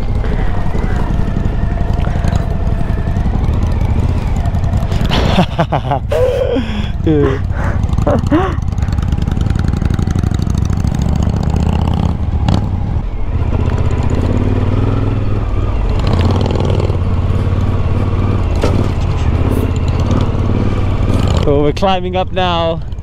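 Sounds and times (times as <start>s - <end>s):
motorcycle engine running: 0.0s - 23.0s
road noise on dirt road: 0.0s - 23.0s.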